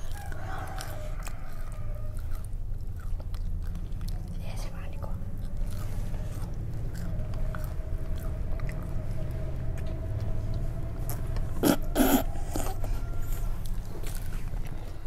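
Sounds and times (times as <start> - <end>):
chewing crunchy food: 0.0 - 15.0
low hum: 0.0 - 15.0.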